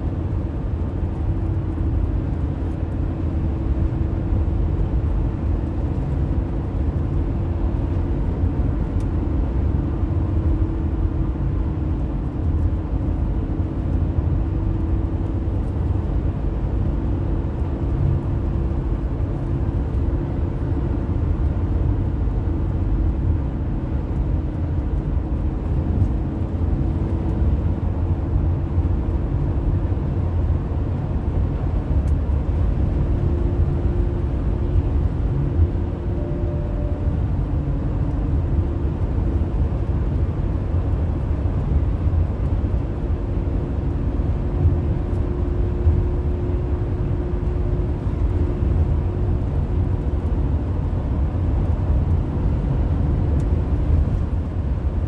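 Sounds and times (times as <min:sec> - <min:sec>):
constant hum: 0:00.0 - 0:55.0
tyres and engine drone: 0:00.0 - 0:55.0.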